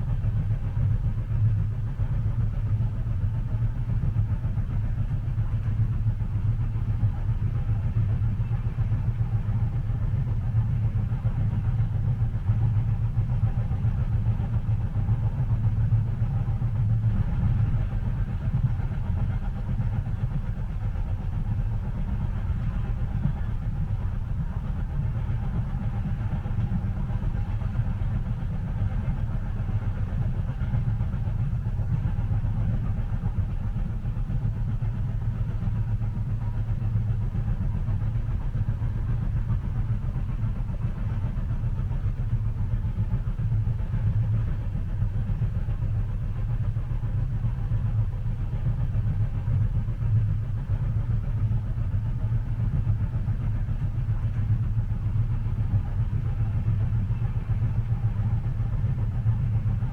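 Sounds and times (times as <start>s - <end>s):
railway carriage rumble: 0.0s - 59.9s.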